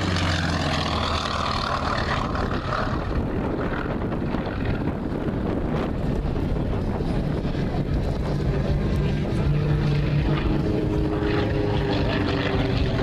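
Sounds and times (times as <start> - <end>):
distant propeller plane droning: 0.0 - 13.0.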